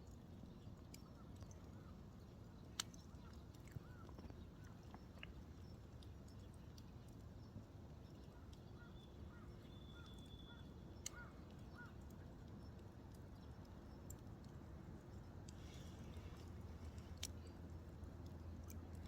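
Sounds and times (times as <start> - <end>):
campfire embers crackling: 0.0 - 19.0.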